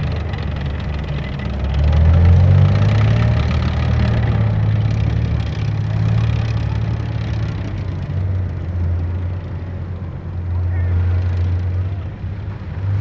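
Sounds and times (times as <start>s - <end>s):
tracks rattling: 0.0s - 12.8s
diesel engine running under load: 0.0s - 13.0s.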